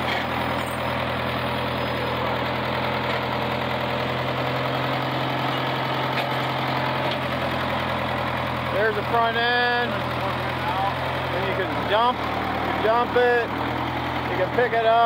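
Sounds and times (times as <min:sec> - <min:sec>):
backhoe engine idling: 0:00.0 - 0:15.0.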